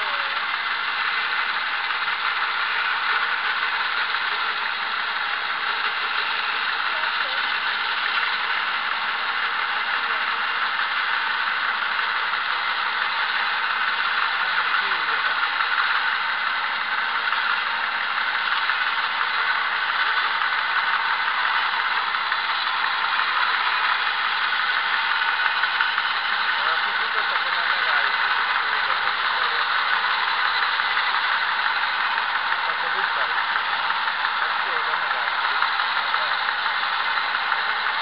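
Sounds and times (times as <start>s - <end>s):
bandsaw mill cutting log: 0.0s - 38.0s.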